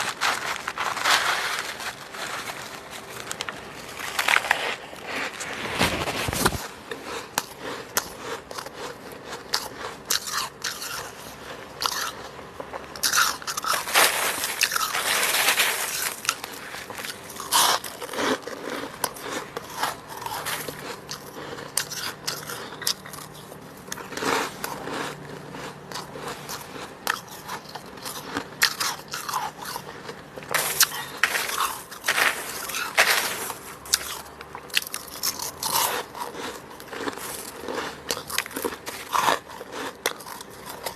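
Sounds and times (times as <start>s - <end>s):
chewing crunchy frost: 0.0s - 40.9s.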